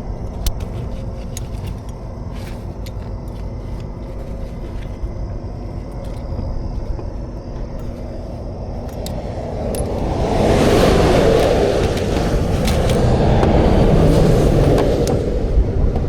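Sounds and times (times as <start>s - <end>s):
faint steady hum: 0.0s - 16.0s
highway traffic rumble: 0.0s - 16.0s.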